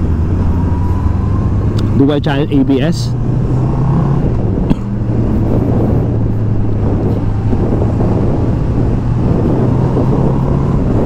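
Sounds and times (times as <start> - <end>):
wind rushing: 0.0 - 11.0.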